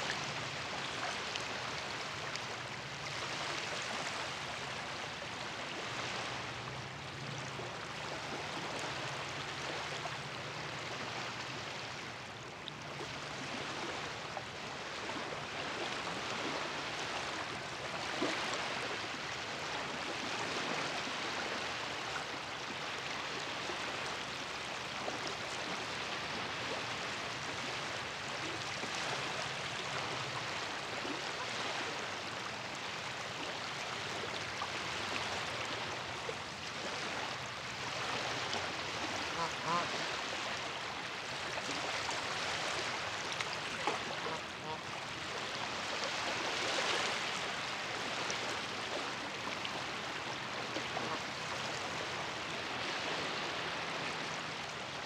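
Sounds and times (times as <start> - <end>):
waves lapping against shore: 0.0 - 55.0.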